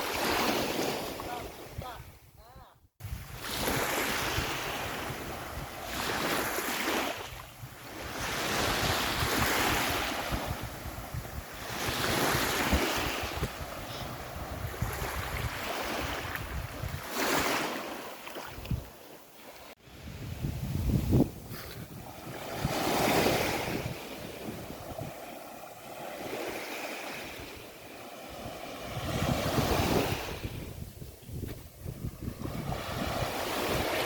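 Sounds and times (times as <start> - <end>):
waves breaking on a beach: 0.0 - 2.1, 3.0 - 34.0
wind buffeting microphone: 3.0 - 17.6, 18.4 - 19.0, 19.8 - 34.0.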